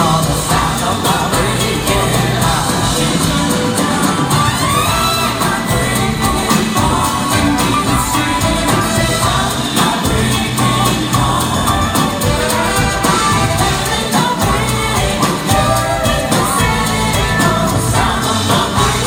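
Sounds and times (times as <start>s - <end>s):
live band playing pop ballad: 0.0s - 19.0s
person singing: 0.0s - 19.0s.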